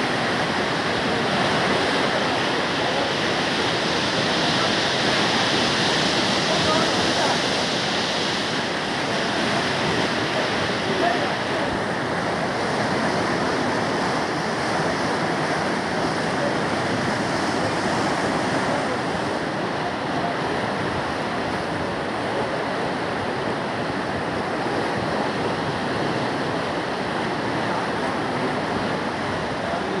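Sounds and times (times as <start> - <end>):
flooded river rushing: 0.0 - 30.0.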